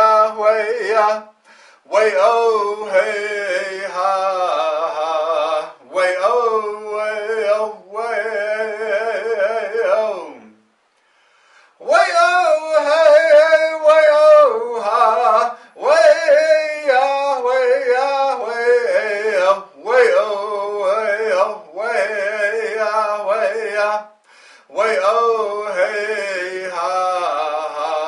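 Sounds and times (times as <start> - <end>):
man chanting solo: 0.0 - 10.6, 11.8 - 28.0.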